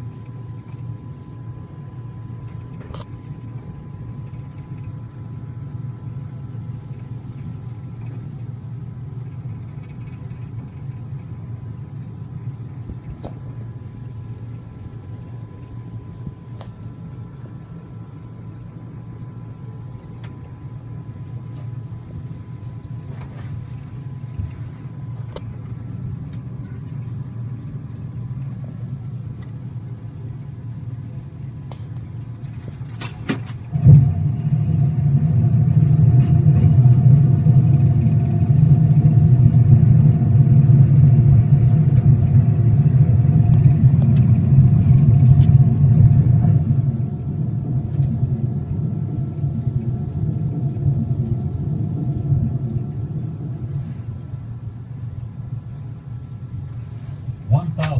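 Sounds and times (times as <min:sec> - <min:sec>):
airplane cockpit rumble: 0:00.0 - 0:57.9.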